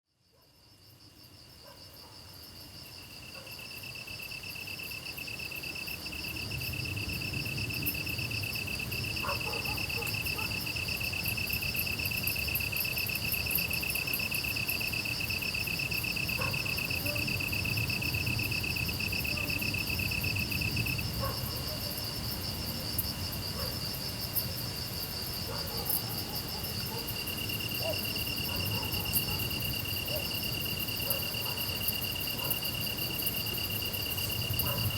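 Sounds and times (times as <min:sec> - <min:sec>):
lower cricket trill: 0:00.6 - 0:34.9.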